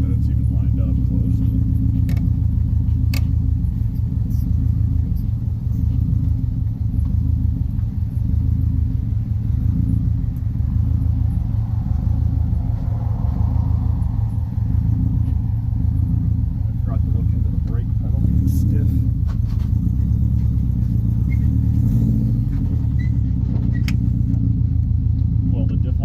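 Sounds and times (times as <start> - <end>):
car engine running with deep drone: 0.0 - 26.0.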